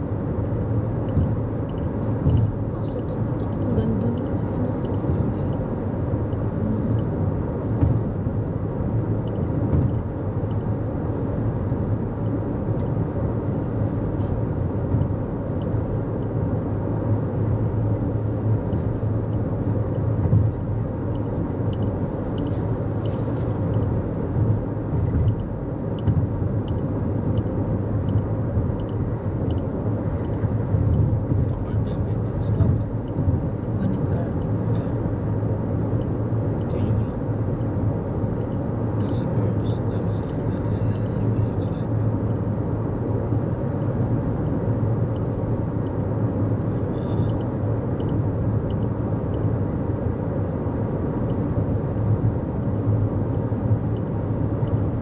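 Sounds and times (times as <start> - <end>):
car engine: 0.0 - 55.0
tyre and road noise: 0.0 - 55.0.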